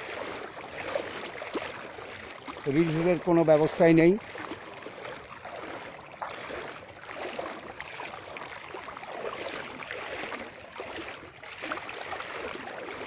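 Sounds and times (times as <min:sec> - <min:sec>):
water sloshing around legs: 0:00.0 - 0:13.0.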